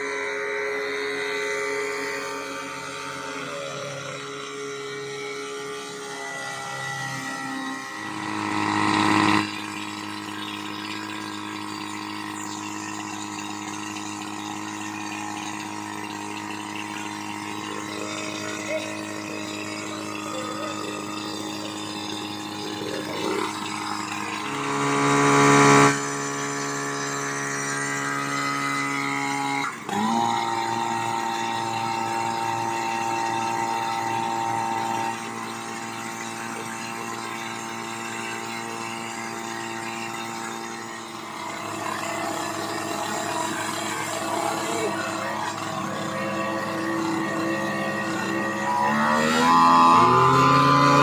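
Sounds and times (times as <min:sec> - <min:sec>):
fire pump engine running: 0:00.0 - 0:51.0.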